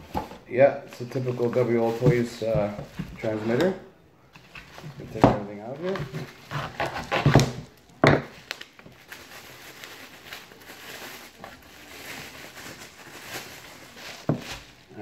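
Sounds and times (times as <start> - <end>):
bubble wrap crinkling: 0.0 - 3.8, 4.4 - 15.0
bubble wrap crackle: 0.9 - 3.8, 4.4 - 15.0.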